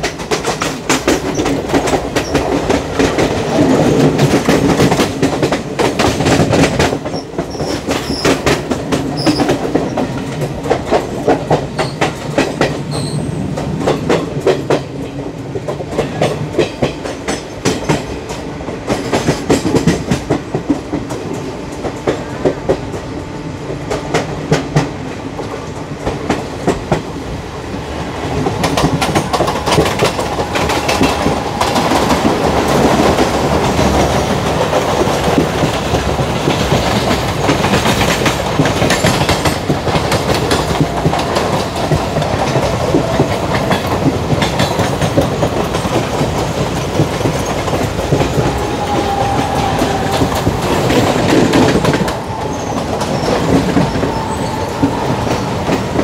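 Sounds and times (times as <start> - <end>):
train running rumble: 0.0 - 56.0
train wheels clickety-clack: 0.0 - 56.0.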